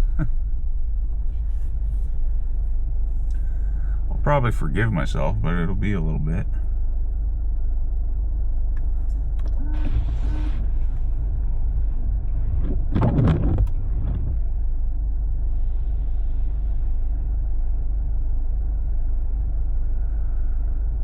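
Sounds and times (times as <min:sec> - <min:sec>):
tyres and engine rumble: 0:00.0 - 0:21.0.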